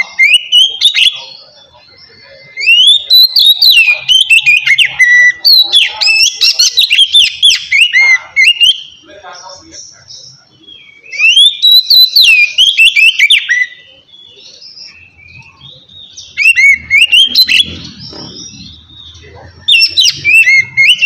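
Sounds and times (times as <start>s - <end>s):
bird singing whistled song: 0.0s - 9.1s, 10.0s - 21.0s
bird twittering: 0.0s - 21.0s.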